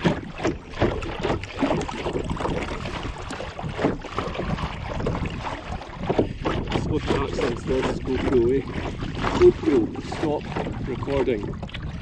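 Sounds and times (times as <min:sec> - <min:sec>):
water splashing around kayak: 0:00.0 - 0:12.0
wind buffeting microphone: 0:00.0 - 0:12.0.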